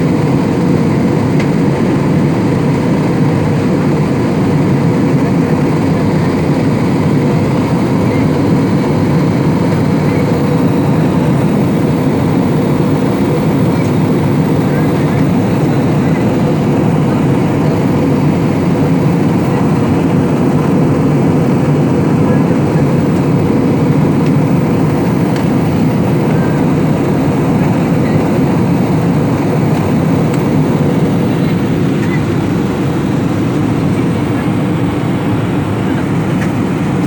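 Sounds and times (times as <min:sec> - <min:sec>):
airliner engine and airflow rumble: 0:00.0 - 0:37.0.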